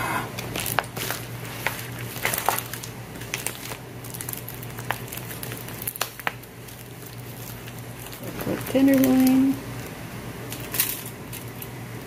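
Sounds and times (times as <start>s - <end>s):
plastic packaging crinkling: 0.4s - 9.6s, 10.5s - 11.8s.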